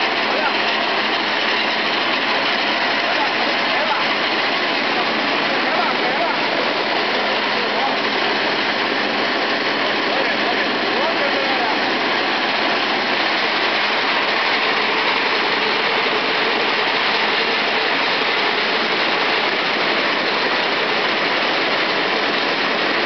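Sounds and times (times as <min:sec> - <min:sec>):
sheller machine rattling: 0:00.0 - 0:23.0.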